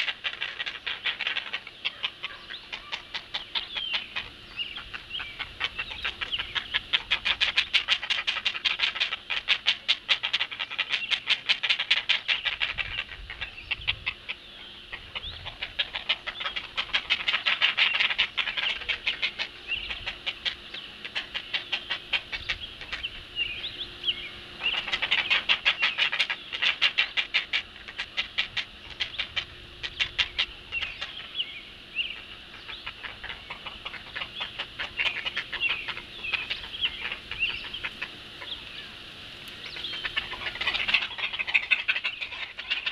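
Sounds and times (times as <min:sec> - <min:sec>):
heron chicks ticking calls: 0:00.0 - 0:42.9.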